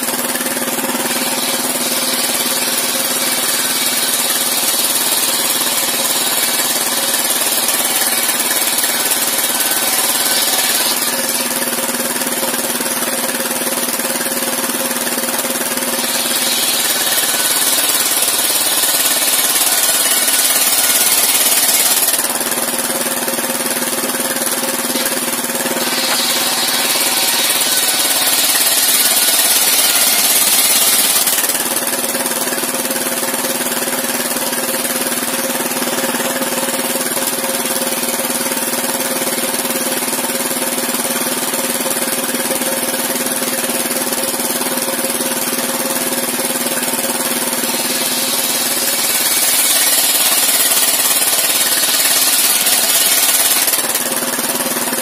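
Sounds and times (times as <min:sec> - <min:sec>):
sawmill blade ripping timber: 0:00.0 - 0:55.0
sawmill engine running: 0:00.0 - 0:55.0.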